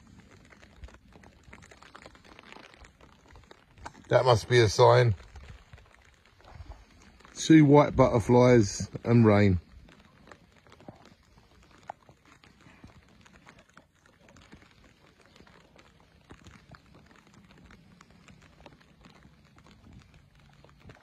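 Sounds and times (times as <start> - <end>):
light rain taps: 0.0 - 21.0.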